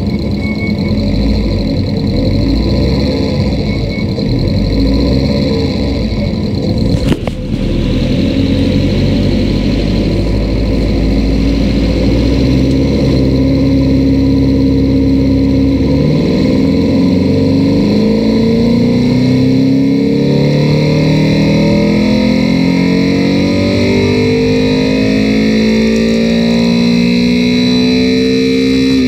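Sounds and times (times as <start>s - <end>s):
engine rising in pitch: 0.0s - 29.0s.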